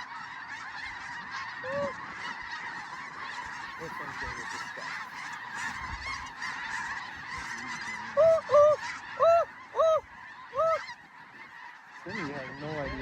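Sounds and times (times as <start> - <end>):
loud close goose honks: 0.0 - 13.0.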